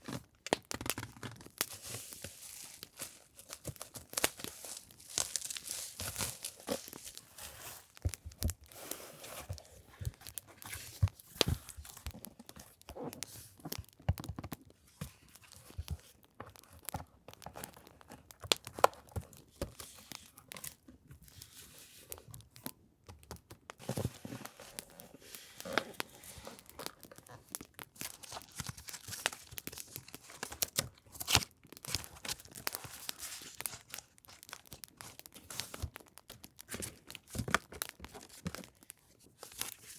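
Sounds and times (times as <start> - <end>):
paper and packaging rustling: 0.0 - 22.6, 23.2 - 39.9.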